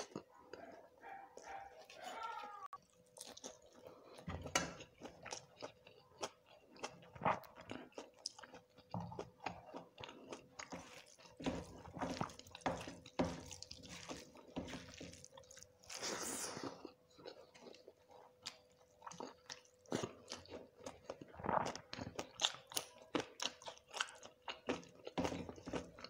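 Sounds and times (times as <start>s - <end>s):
chewing and mouth sounds: 0.0s - 26.0s.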